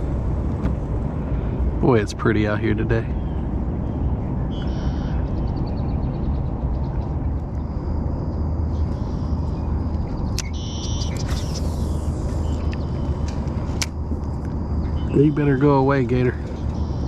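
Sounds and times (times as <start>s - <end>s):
steady low rumble: 0.0s - 17.0s
birds chirping and trilling: 1.4s - 17.0s.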